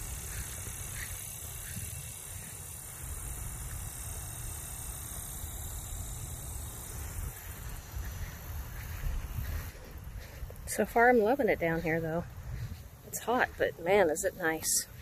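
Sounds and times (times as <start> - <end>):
wind buffeting microphone: 0.0 - 5.9, 6.8 - 15.0
steady high hiss: 0.0 - 15.0.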